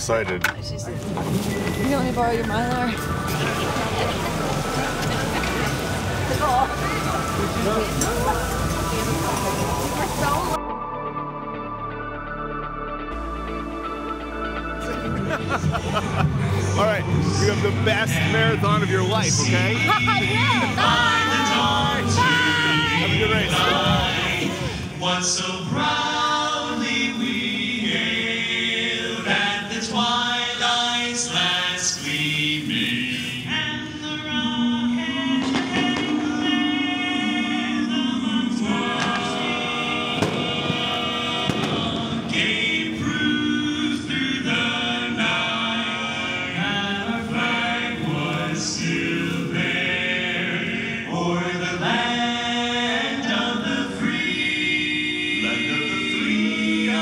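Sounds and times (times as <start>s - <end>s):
music with voices singing together: 0.0s - 57.0s.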